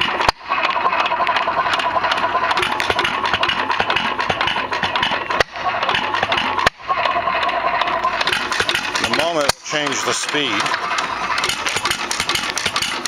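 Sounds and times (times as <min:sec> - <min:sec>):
engine clattering: 0:00.0 - 0:13.0.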